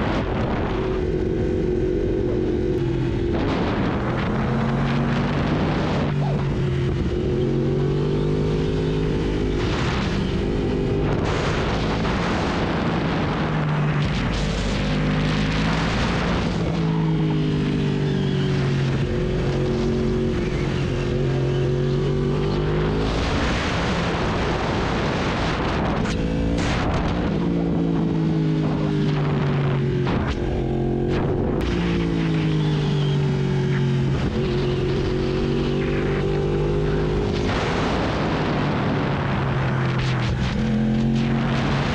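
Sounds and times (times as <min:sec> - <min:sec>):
wind noise on microphone: 0:00.0 - 0:08.0, 0:09.2 - 0:41.9
motorcycle engine revving: 0:00.0 - 0:41.9.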